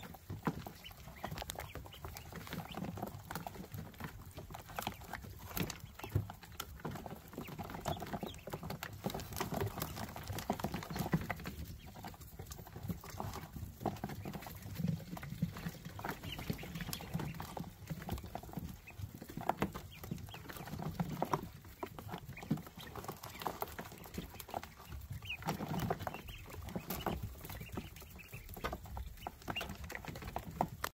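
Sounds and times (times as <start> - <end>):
ducklings peeping: 0.0 - 30.9
ducklings pattering and scratching: 0.0 - 31.0.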